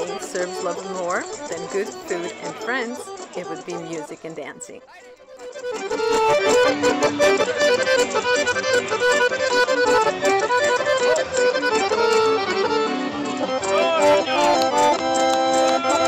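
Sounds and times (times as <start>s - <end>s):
folk band playing dance tune: 0.0s - 16.0s.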